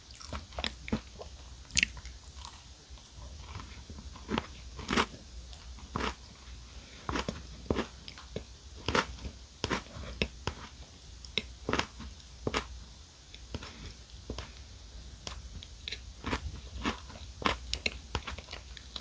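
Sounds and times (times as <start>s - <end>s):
close chewing with crunches: 0.0s - 12.7s, 15.3s - 19.0s.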